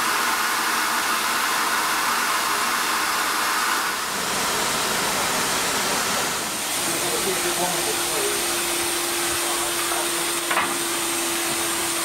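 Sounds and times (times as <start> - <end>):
steam hissing from locomotive: 0.0 - 12.0.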